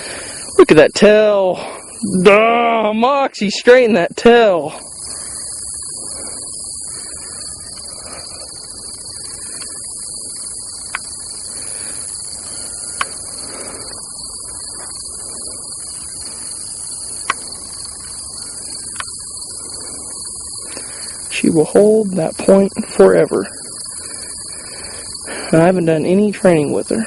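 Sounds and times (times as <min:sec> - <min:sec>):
insects chorus: 0:00.0 - 0:27.0.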